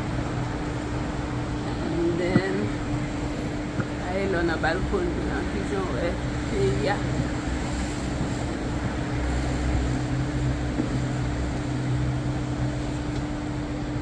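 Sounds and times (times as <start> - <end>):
city rushing noise: 0.0 - 14.0
low mechanical hum: 0.0 - 14.0.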